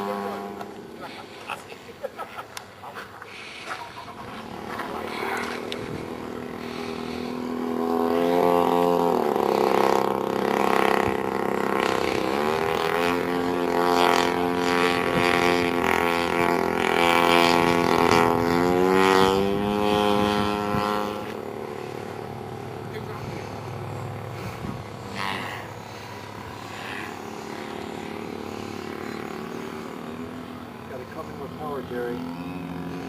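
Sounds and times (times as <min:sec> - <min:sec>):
model airplane engine running: 0:00.0 - 0:33.0.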